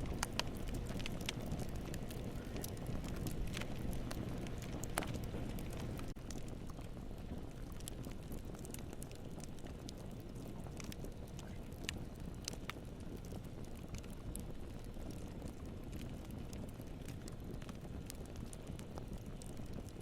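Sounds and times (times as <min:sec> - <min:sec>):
burning wood crackling and popping: 0:00.0 - 0:20.0
low rumble of flames: 0:00.0 - 0:20.0.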